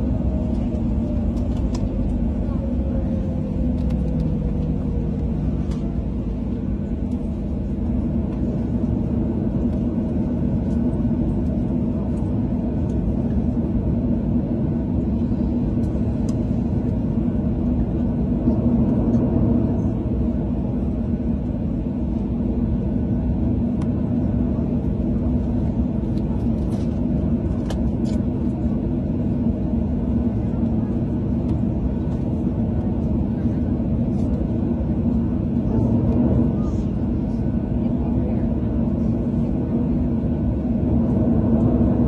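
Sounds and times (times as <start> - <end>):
jet airliner cabin rumble: 0.0 - 42.0.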